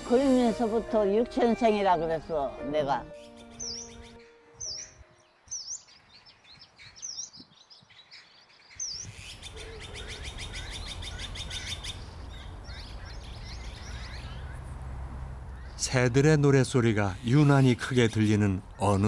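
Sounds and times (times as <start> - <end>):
outdoor background: 0.0 - 19.0
small birds chirping: 0.1 - 19.0.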